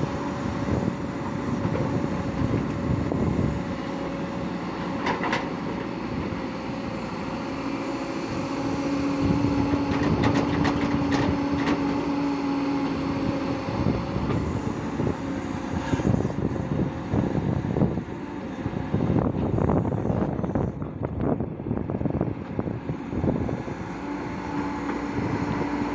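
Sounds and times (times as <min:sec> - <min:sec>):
excavator diesel engine under load: 0:00.0 - 0:25.9
steady hydraulic whine: 0:00.0 - 0:25.9.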